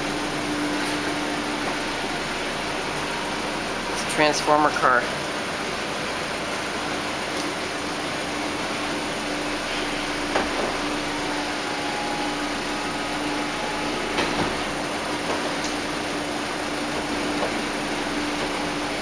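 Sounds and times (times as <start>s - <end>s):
hydraulic pump humming: 0.0s - 19.0s.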